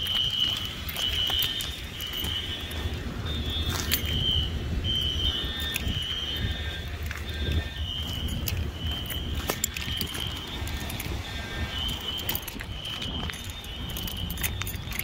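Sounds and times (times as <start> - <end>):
footsteps on concrete: 0.0 - 4.2, 5.5 - 15.0
fire alarm horns beeping: 0.0 - 15.0.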